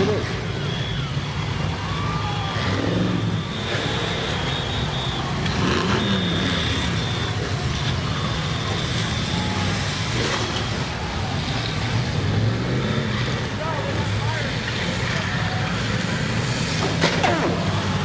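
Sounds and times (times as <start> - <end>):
car engines revving: 0.0 - 18.0
cars crashing into each other: 0.0 - 18.0.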